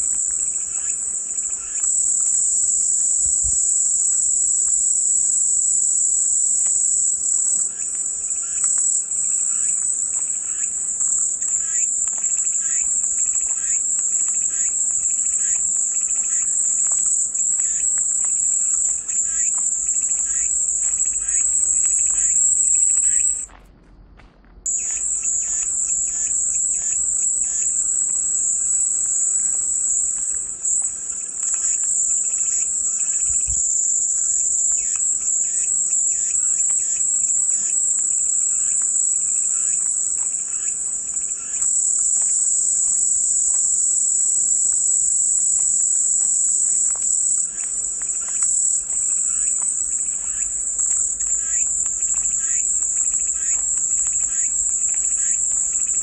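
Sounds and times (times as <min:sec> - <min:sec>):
cicadas buzzing: 0:00.0 - 0:23.6, 0:24.7 - 0:56.0.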